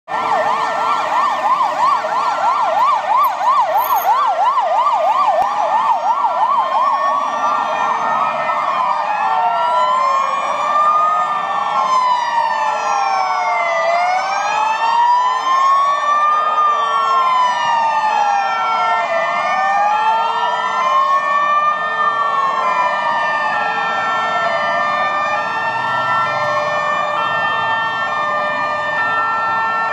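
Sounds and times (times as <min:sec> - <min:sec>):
police siren yelp and wail: 0:00.1 - 0:29.9
second siren wail: 0:00.1 - 0:29.9.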